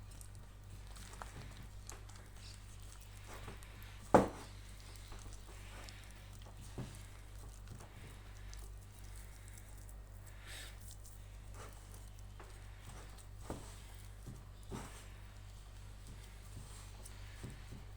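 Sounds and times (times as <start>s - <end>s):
dough squishing and patting: 0.0s - 17.9s
hands kneading dough: 0.0s - 17.9s.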